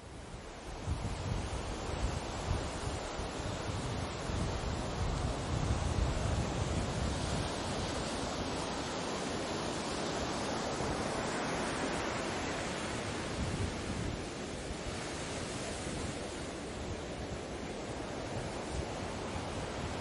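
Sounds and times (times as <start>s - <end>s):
waves washing on beach: 0.0s - 20.0s.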